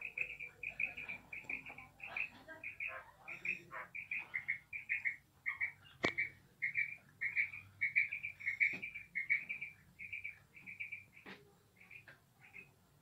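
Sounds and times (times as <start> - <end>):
quail chirping: 0.0 - 12.8.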